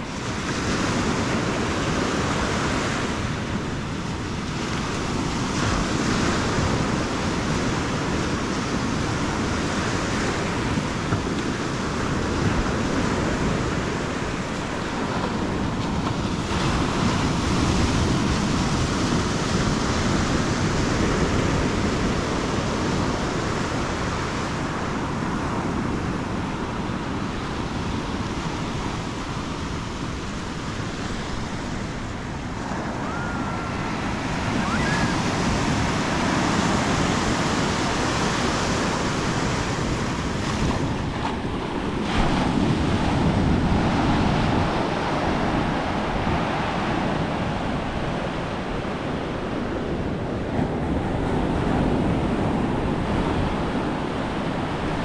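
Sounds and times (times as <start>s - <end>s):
ocean waves breaking on beach: 0.0s - 55.0s
wind rumbling on microphone: 0.0s - 55.0s.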